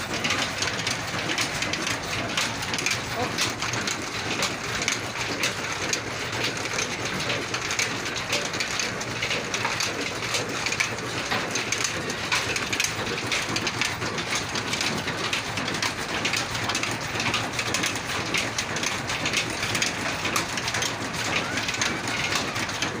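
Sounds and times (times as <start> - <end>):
diesel engine clattering: 0.0 - 23.0.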